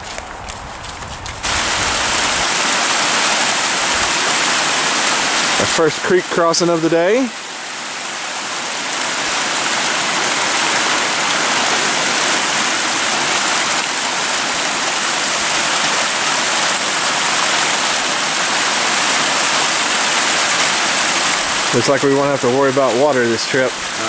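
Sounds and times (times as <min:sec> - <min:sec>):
creek water rushing over rocks: 0:00.0 - 0:24.0.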